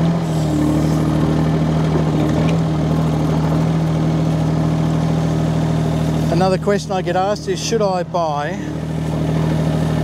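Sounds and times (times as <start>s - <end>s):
mini excavator diesel engine running: 0.0s - 10.0s.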